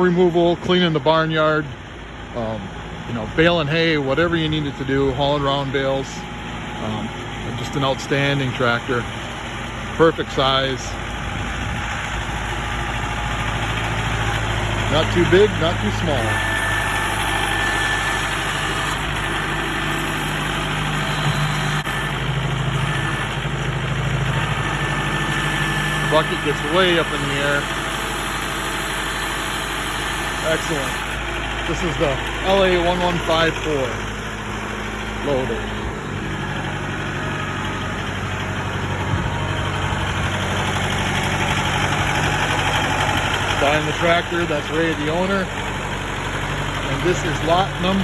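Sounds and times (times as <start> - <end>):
tractor diesel engine idling: 0.0 - 48.0.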